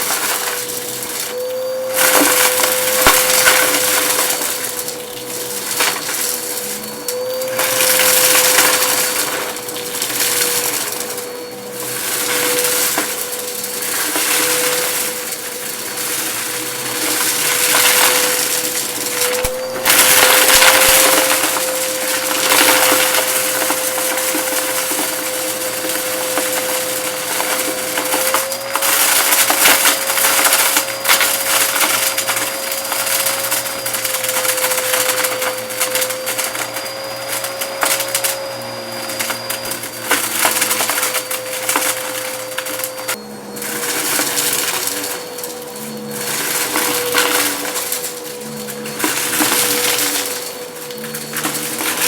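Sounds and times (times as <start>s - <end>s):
debris crunching in vacuum: 0.0s - 52.0s
vacuum cleaner motor whine: 0.0s - 52.0s.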